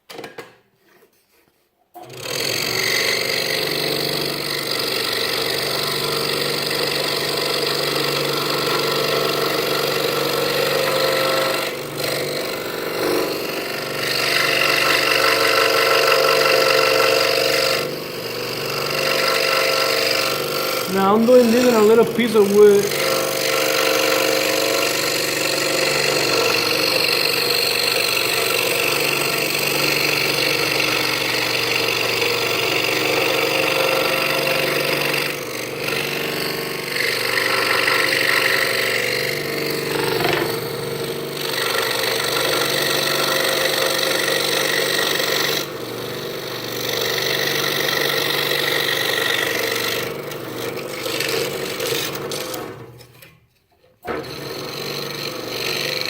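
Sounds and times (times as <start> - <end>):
scroll saw cutting wood: 2.0 - 56.0.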